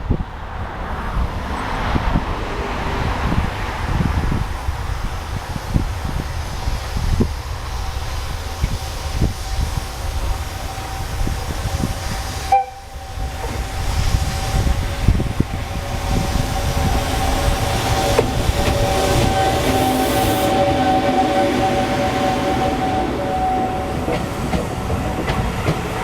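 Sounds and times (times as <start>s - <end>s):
freight train rolling by: 0.0s - 26.0s.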